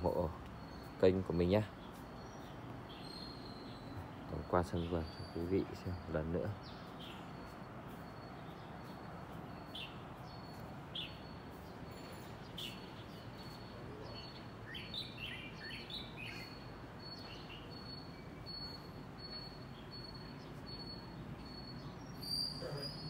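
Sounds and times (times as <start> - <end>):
birds chirping: 0.0 - 23.0
low outdoor hum: 0.0 - 23.0.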